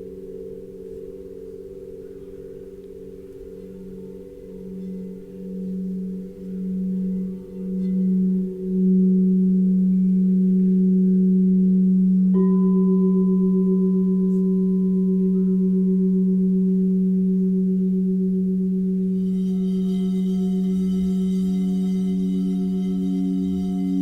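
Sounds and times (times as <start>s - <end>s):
bright bell-like singing bowl: 0.0s - 24.0s
low singing bowl humming: 0.0s - 24.0s
higher singing bowl struck: 3.1s - 24.0s.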